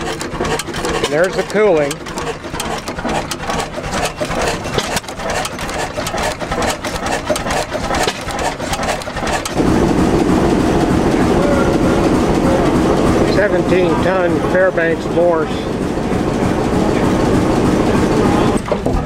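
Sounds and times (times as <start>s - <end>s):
diesel engine heavy rumble: 0.0s - 19.0s
small engine clattering: 0.0s - 19.0s.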